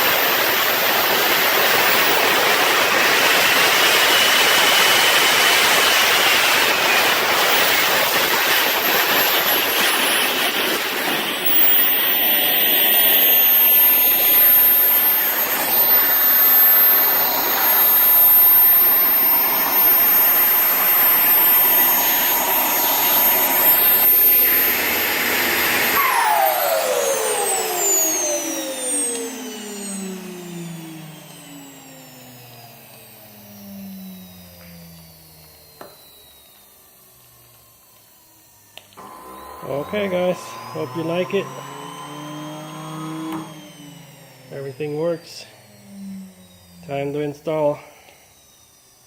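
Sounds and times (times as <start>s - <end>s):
jet turbine roaring and whining: 0.0s - 49.0s.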